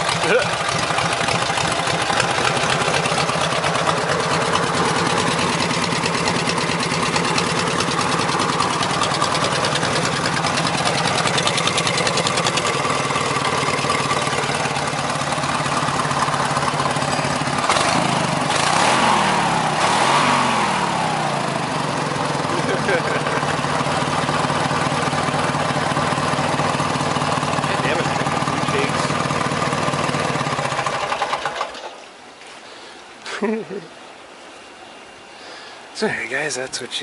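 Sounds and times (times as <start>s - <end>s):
lawn tractor engine running: 0.0s - 32.0s.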